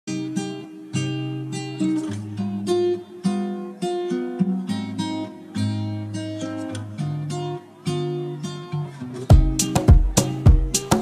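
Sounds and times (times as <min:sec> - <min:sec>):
strummed acoustic guitar: 0:00.1 - 0:11.0.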